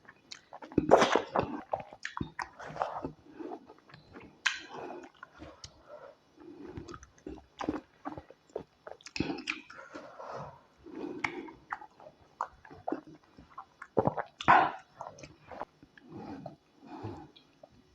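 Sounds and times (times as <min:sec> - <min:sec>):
wet chewing and mouth smacking: 0:00.0 - 0:05.8, 0:06.5 - 0:10.1, 0:10.9 - 0:16.6.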